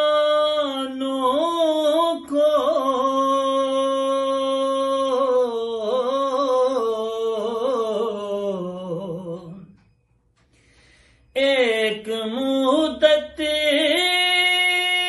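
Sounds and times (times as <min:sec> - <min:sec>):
man singing unaccompanied: 0:00.0 - 0:10.0, 0:11.3 - 0:15.0.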